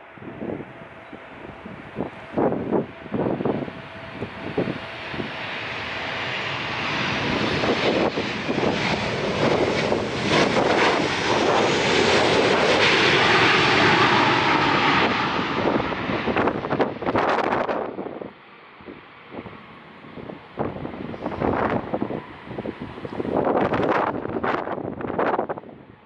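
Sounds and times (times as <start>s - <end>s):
airliner engines passing: 0.0s - 26.0s
wind buffeting microphone: 0.0s - 26.0s.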